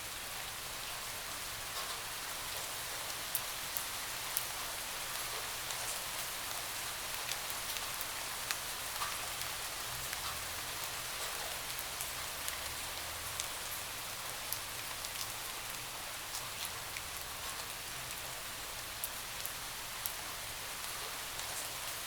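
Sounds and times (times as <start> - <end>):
rain hissing on a window: 0.0 - 22.0.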